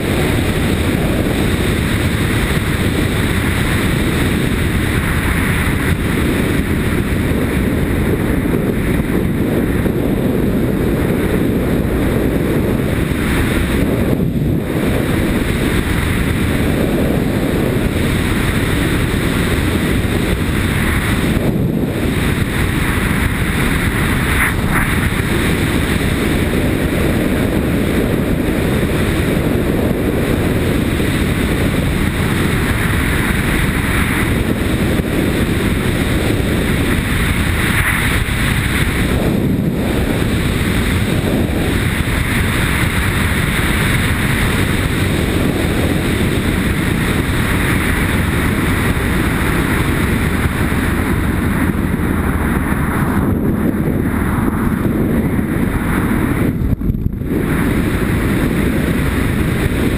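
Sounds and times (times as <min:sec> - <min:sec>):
low wind rumble: 0:00.0 - 0:59.9
motorcycle engine: 0:00.0 - 0:59.9.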